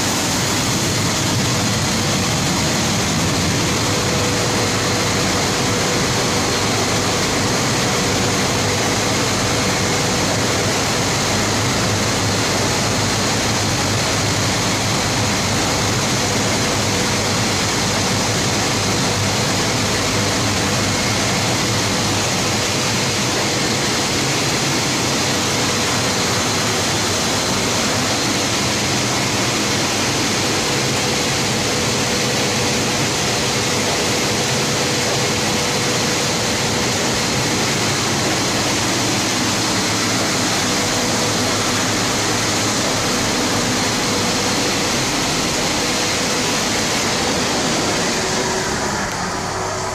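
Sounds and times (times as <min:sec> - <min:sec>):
car wash machinery rushing: 0:00.0 - 0:49.9.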